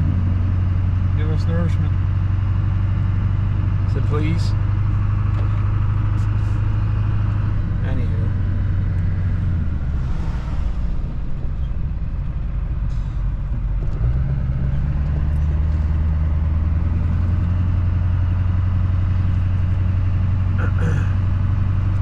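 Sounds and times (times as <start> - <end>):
diesel truck engine driving: 0.0 - 22.0.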